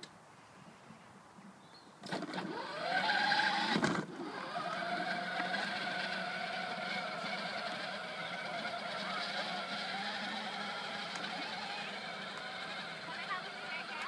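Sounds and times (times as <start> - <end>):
electric toy motor whining: 2.0 - 14.0.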